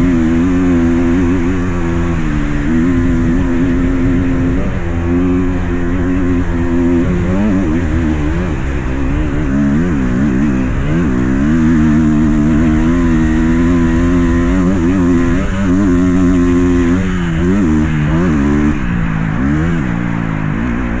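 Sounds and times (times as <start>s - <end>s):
dirt bike engine high revs: 0.0s - 21.0s.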